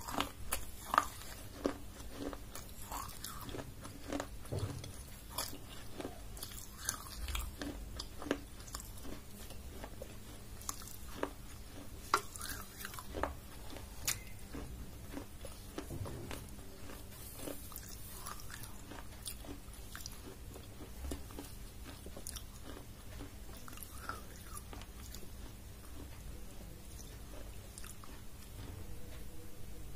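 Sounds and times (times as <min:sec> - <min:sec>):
chewing crunchy food: 0:00.0 - 0:29.8.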